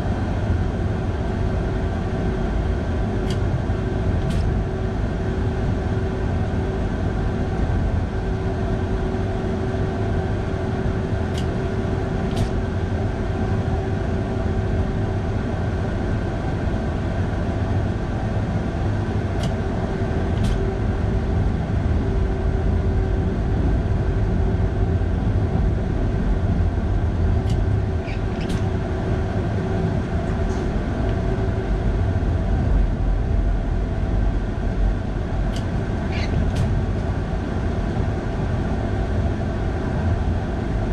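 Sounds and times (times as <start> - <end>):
constant hum: 0.0 - 40.9
train running rumble: 0.0 - 40.9.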